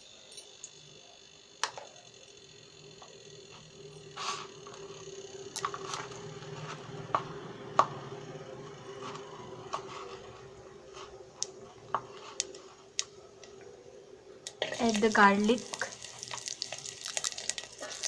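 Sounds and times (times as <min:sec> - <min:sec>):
faint steady hum: 0:00.0 - 0:18.0
seeds crackling in hot oil: 0:00.5 - 0:13.8, 0:14.4 - 0:18.0.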